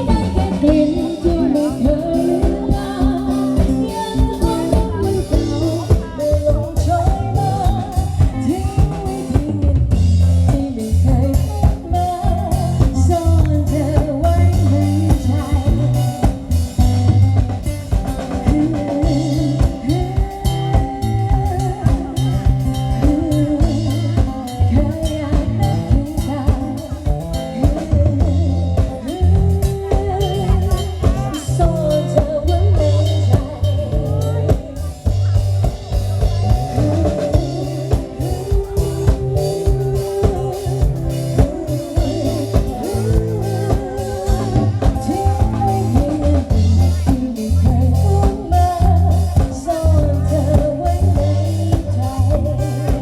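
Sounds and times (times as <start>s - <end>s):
bass line: 0.0s - 53.0s
drum kit beat: 0.0s - 53.0s
live band music: 0.0s - 53.0s.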